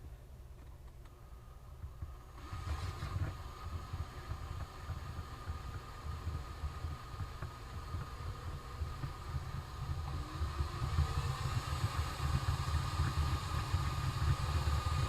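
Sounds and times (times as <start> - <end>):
small motor whining: 2.2 - 15.0.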